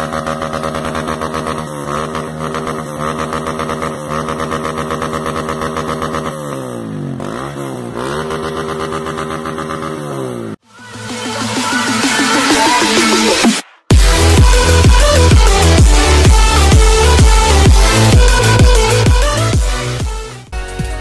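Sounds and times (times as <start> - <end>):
motorcycle engine idling: 0.0 - 11.6, 13.9 - 21.0.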